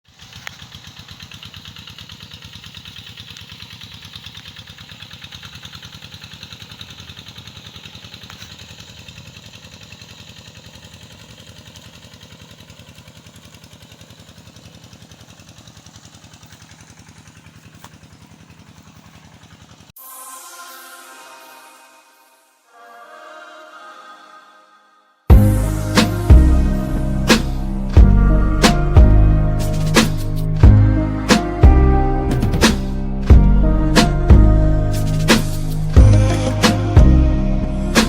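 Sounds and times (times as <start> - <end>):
small engine running: 0.0 - 19.9, 25.3 - 38.0.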